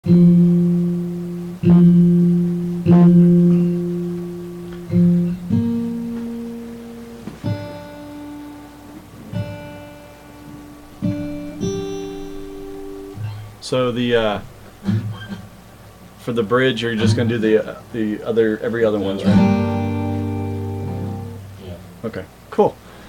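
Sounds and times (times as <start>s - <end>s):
guitar plucked notes: 0.0s - 15.8s, 16.5s - 22.0s.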